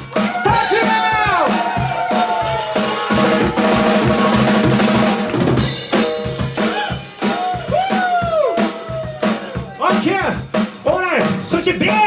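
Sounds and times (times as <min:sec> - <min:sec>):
rock drum kit solo: 0:00.0 - 0:12.0.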